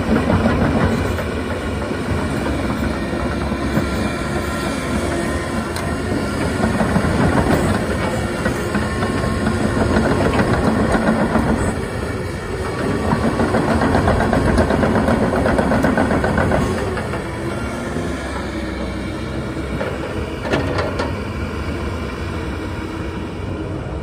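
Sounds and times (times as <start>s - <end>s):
excavator diesel engine under load: 0.0s - 24.0s
steel tracks clanking: 0.0s - 24.0s.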